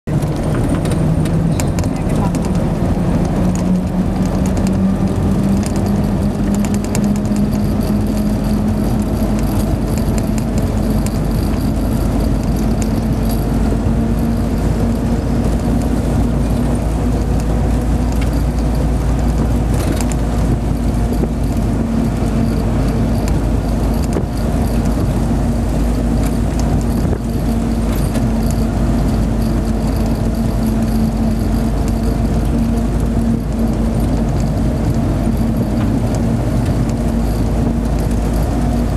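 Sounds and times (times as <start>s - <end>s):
jeep engine running: 0.0s - 38.9s
road and wind noise: 0.0s - 38.9s
body rattles: 0.1s - 38.9s.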